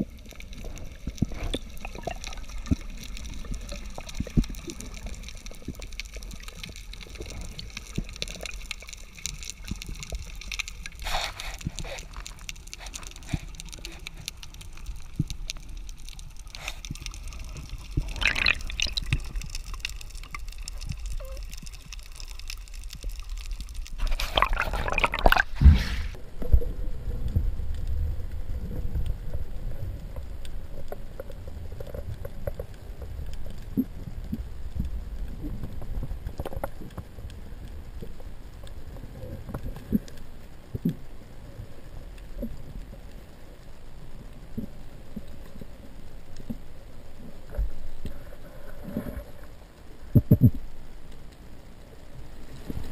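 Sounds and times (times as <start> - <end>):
underwater water rush and gurgle: 0.0 - 52.9.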